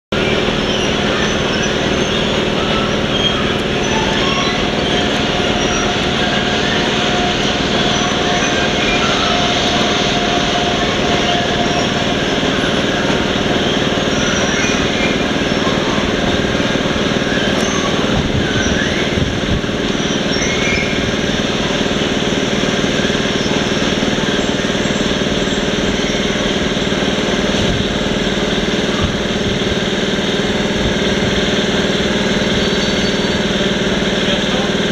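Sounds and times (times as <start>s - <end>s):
electric train equipment humming: 0.1s - 34.9s.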